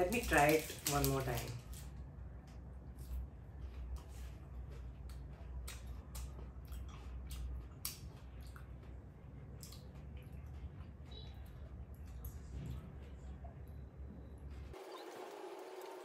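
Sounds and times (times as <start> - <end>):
chewing crackles and clicks: 0.0 - 1.9, 2.5 - 13.8
low steady hum: 0.0 - 16.0.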